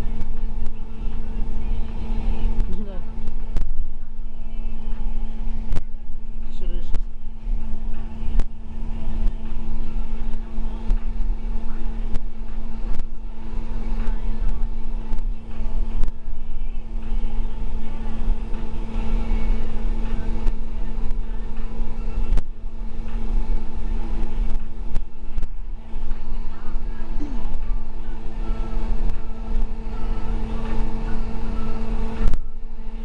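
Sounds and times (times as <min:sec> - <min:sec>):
droning hum: 0:00.0 - 0:33.0.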